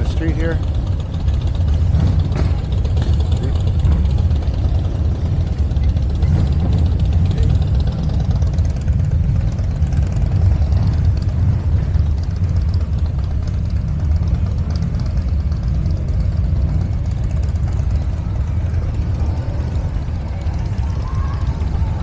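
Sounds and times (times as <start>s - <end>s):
motorcycle engines at low revs: 0.0s - 22.0s.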